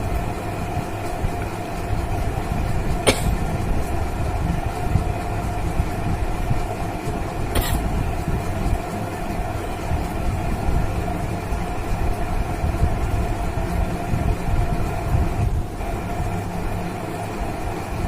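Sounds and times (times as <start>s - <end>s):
low mechanical rumble: 0.0s - 18.0s
mid-pitched hum: 0.0s - 18.0s.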